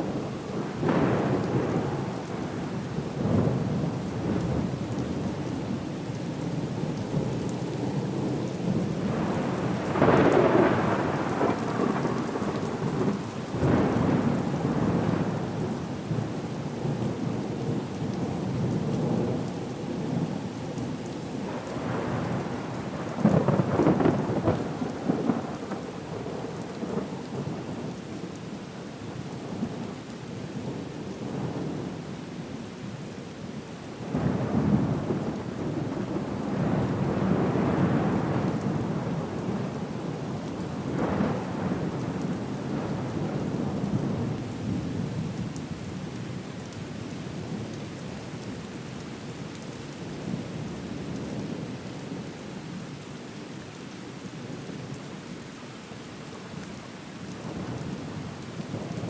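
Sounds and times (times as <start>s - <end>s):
rain and water wash: 0.0s - 59.0s.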